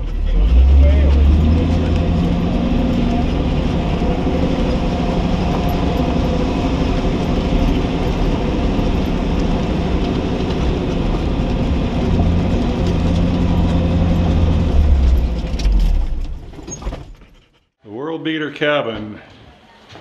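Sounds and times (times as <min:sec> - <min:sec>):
truck engine hum: 0:00.0 - 0:17.7
tyre and cab noise: 0:00.0 - 0:17.8.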